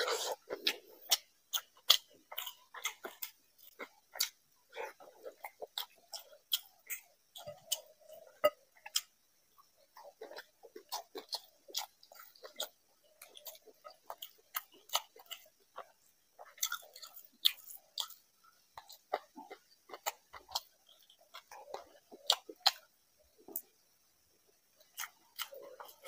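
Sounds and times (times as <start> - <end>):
man chewing food: 0.0 - 26.0.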